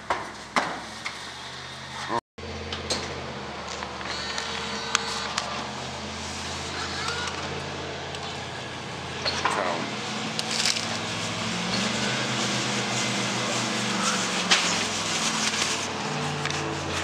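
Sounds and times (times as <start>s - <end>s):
claw machine motor hum: 2.4s - 17.0s.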